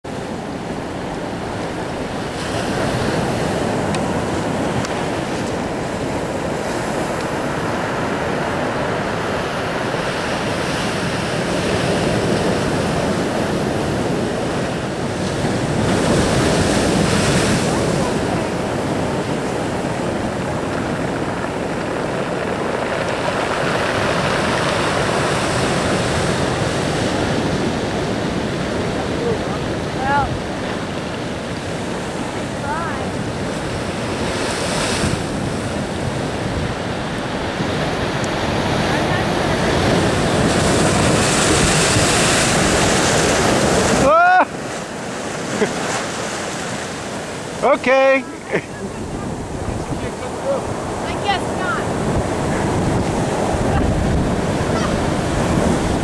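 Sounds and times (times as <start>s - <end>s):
heavy surf breaking: 0.0s - 56.0s
wind buffeting microphone: 0.0s - 56.0s.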